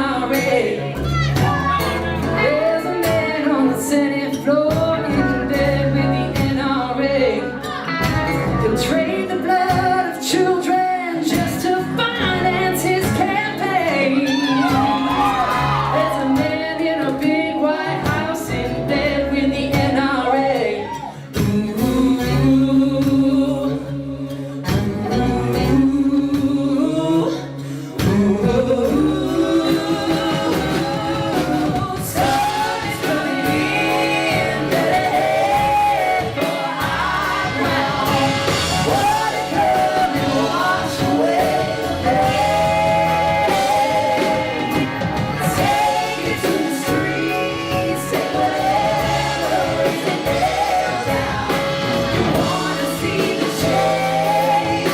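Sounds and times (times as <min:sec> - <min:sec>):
live rock band with singing: 0:00.0 - 0:54.9.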